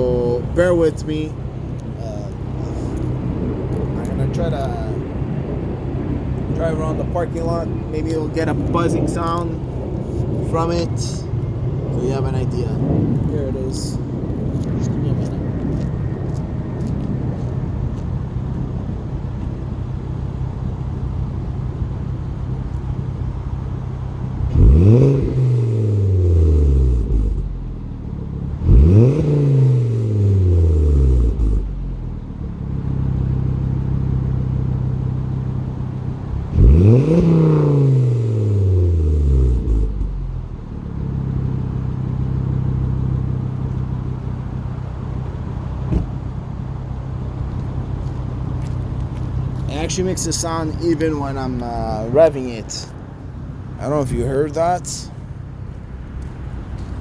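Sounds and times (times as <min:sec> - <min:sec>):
muffler buzz: 0:00.0 - 0:51.5
car engine idling and revving: 0:00.0 - 0:57.0.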